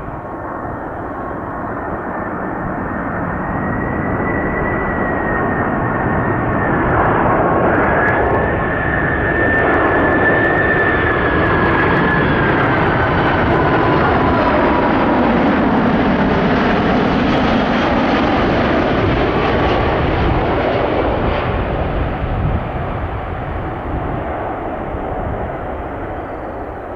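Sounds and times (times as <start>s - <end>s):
jet aircraft engines whining: 0.0s - 26.9s
jet roar: 0.0s - 26.9s.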